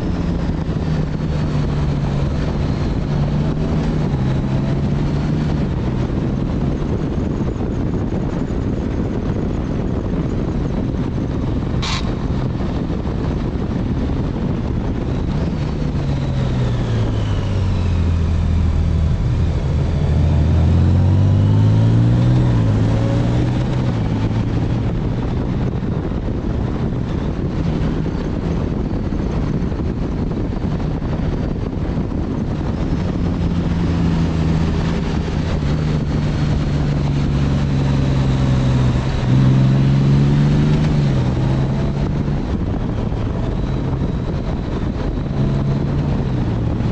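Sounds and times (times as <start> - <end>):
motorcycle engine running: 0.0 - 46.9
wind rush: 0.0 - 46.9.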